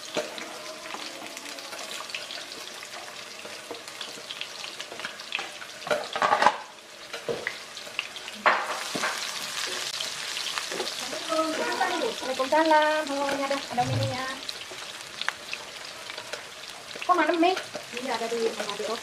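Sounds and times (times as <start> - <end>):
shallots sizzling in hot oil: 0.0 - 19.0.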